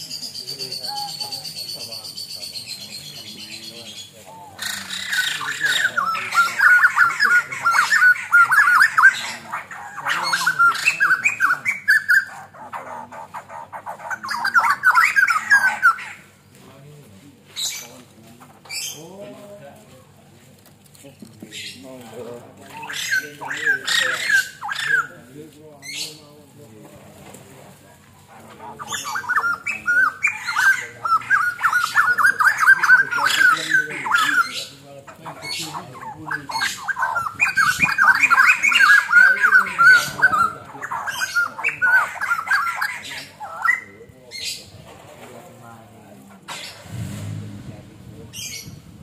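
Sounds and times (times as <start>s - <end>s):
bird chattering calls: 0.0s - 16.5s, 17.5s - 19.2s, 21.4s - 26.4s, 27.9s - 44.8s, 45.6s - 47.3s, 48.2s - 48.9s.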